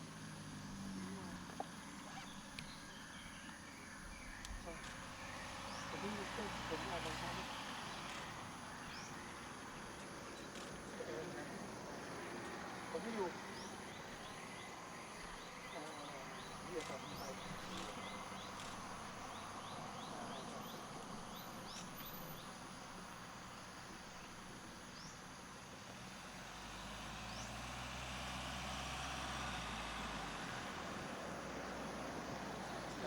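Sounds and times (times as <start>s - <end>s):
insects chirping: 0.0s - 33.0s
vehicle engine low hum: 0.0s - 33.0s.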